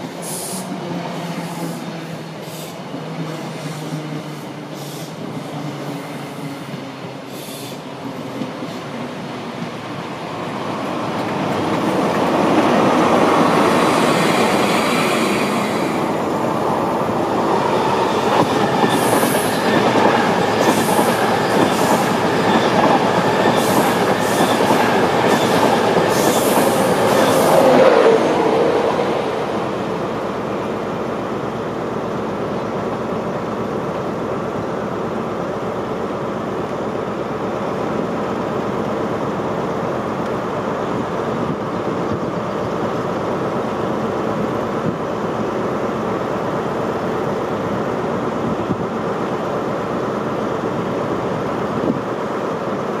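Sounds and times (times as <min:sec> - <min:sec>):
train coaches rumbling past: 0:00.0 - 0:53.0.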